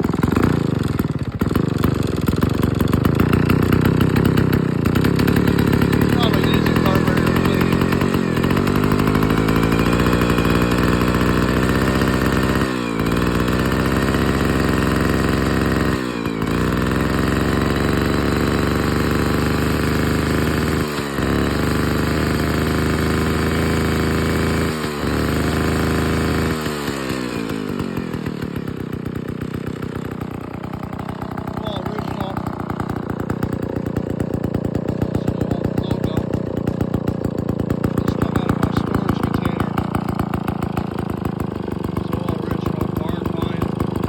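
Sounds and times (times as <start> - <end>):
chainsaw running at high speed: 0.0 - 44.0.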